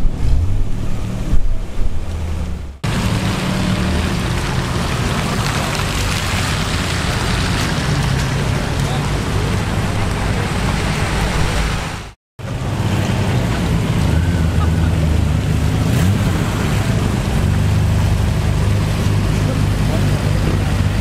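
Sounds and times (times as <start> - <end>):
car engine rumble: 0.0 - 21.0
tyres hissing on wet road: 2.8 - 21.0.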